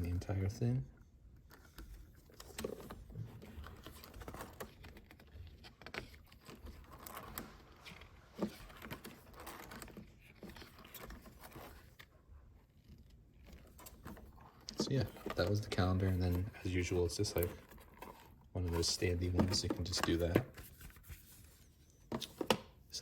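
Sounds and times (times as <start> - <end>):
paper pages rustling: 1.3 - 23.0.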